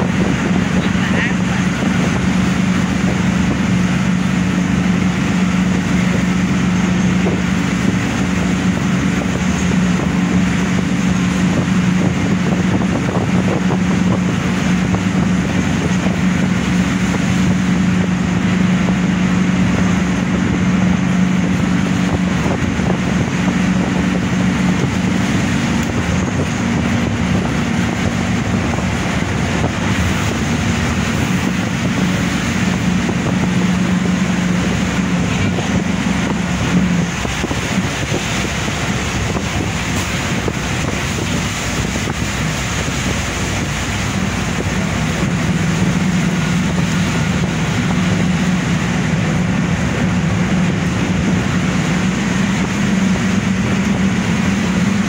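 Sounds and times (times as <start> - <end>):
road and wind noise: 0.0 - 55.0
vehicle engine hum: 0.0 - 55.0.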